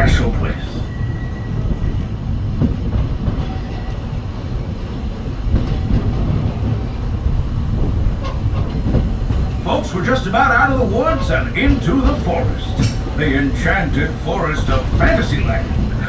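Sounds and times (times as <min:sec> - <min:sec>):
steam train wheels rumbling: 0:00.0 - 0:16.0.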